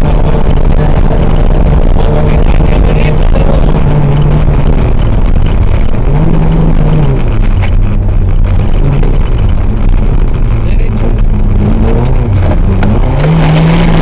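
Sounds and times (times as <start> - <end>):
rally car engine revving: 0.0 - 14.0
road noise: 0.0 - 14.0.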